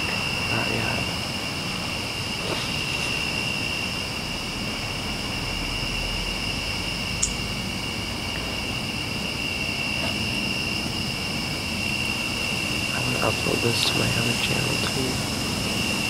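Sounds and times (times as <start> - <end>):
background hiss: 0.0 - 16.0
crickets trilling: 0.0 - 16.0.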